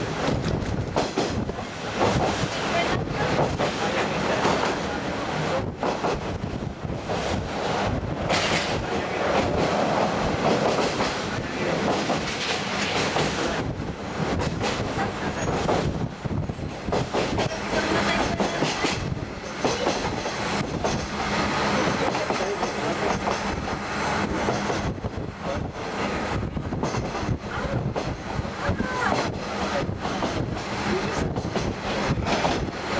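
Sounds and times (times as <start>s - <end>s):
low train hum: 0.0s - 32.9s
train wheels on rails: 0.0s - 32.9s.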